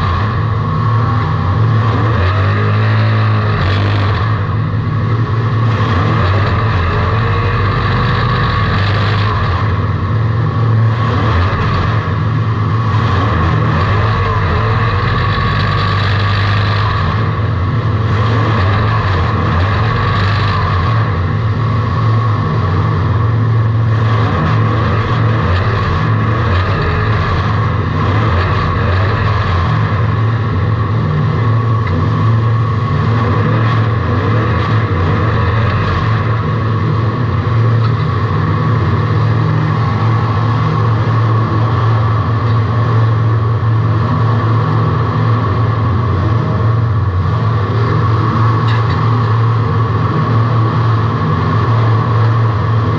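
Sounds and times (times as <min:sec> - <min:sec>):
race car engine running: 0:00.0 - 0:52.9.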